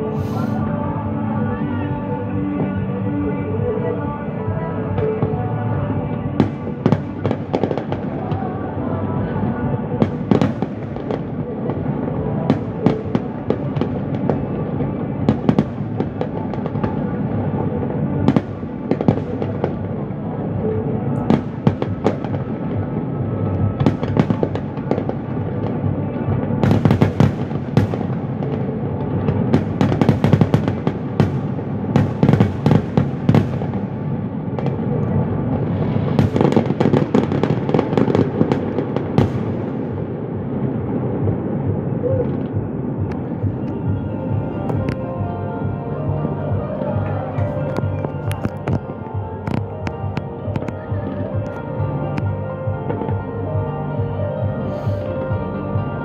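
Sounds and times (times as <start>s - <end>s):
fireworks bursts and bangs: 4.9s - 53.2s.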